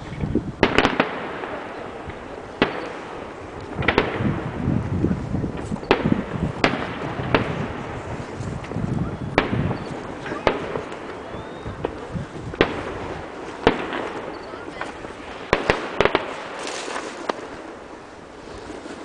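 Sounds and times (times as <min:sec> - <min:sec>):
fireworks bangs: 0:00.0 - 0:19.0
low rumble and crackle: 0:00.0 - 0:19.0.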